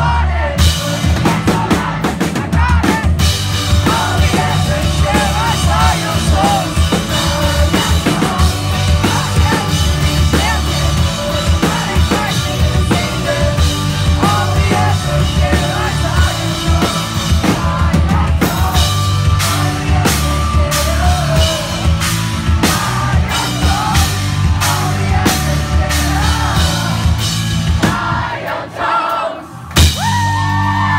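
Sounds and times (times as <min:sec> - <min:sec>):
drum accents: 0:00.0 - 0:30.9
rock band playing live: 0:00.0 - 0:30.9.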